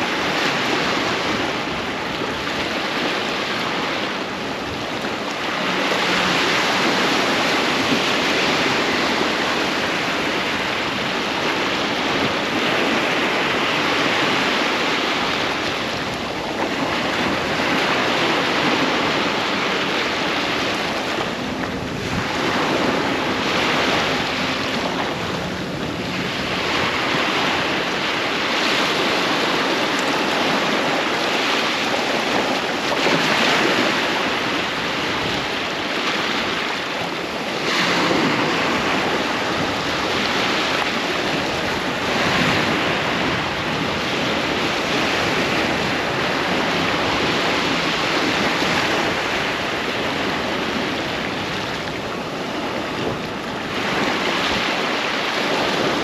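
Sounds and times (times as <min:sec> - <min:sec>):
sea waves breaking on beach: 0:00.0 - 0:56.0
wind on microphone: 0:00.0 - 0:56.0.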